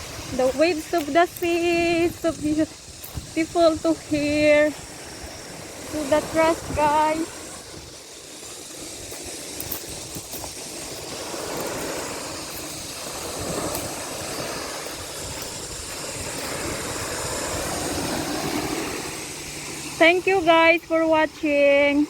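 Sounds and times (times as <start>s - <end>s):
sea waves washing onto beach: 0.0s - 22.0s.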